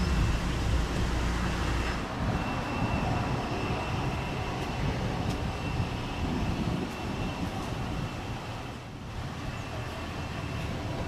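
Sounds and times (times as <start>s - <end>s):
high-pitched aircraft whine: 0.0s - 11.0s.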